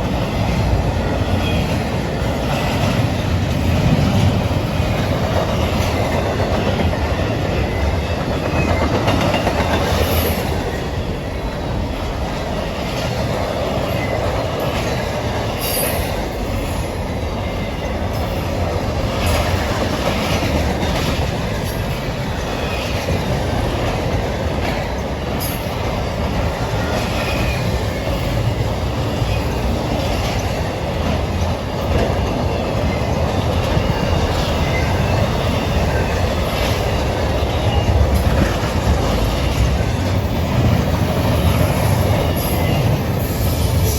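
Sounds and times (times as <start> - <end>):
train cars rumbling past: 0.0 - 43.9.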